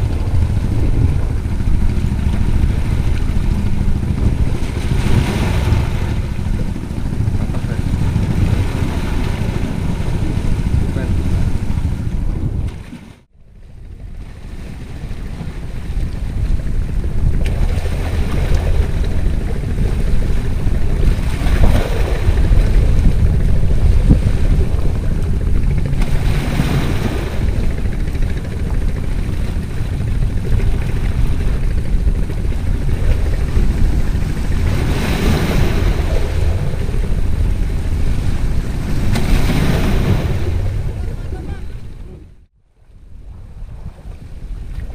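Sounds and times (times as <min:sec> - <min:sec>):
waves washing over rocks: 0:00.0 - 0:13.3, 0:14.3 - 0:41.6
wind rumble on microphone: 0:00.0 - 0:44.9.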